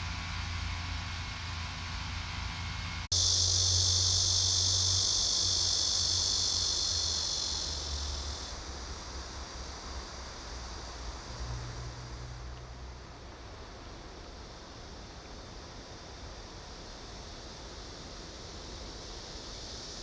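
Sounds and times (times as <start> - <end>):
insects buzzing: 3.1 - 20.0.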